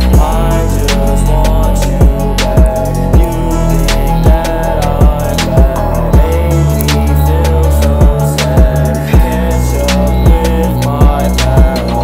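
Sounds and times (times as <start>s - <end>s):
hip-hop beat: 0.0s - 12.0s.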